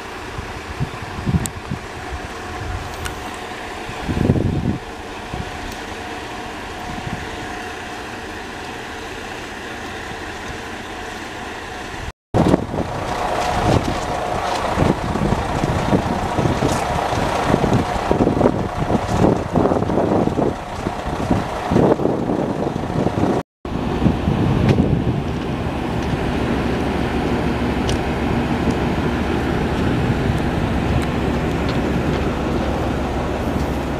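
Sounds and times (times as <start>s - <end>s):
idling diesel engine hum: 0.0s - 33.9s
wind buffeting microphone: 0.2s - 5.9s, 6.5s - 7.6s, 12.0s - 33.9s.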